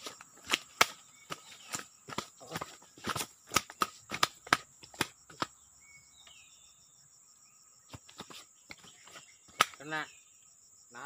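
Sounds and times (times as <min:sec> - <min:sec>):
insects droning: 0:00.0 - 0:11.0
pulsing insect chirp: 0:00.0 - 0:11.0.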